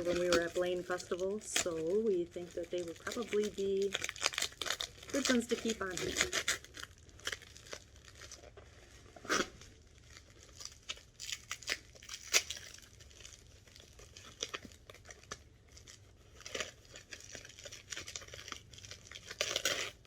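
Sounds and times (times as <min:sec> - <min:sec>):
packing material crinkling: 0:00.0 - 0:20.0
packing material tearing: 0:00.0 - 0:20.0.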